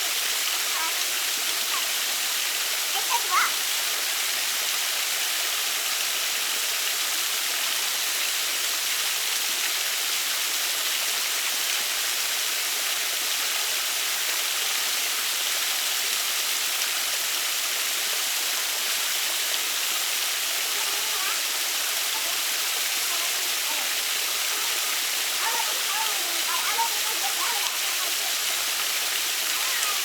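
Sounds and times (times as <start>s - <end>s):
waterfall and rushing stream: 0.0s - 30.0s.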